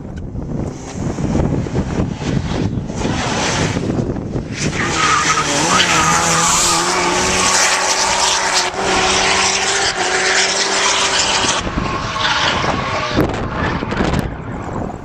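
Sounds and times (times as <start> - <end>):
car engine under throttle: 0.0 - 15.0.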